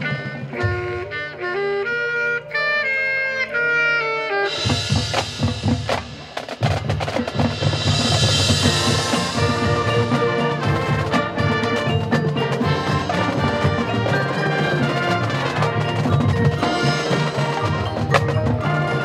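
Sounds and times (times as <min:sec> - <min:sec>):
cymbals: 0:00.0 - 0:19.0
wind and brass melody: 0:00.0 - 0:19.0.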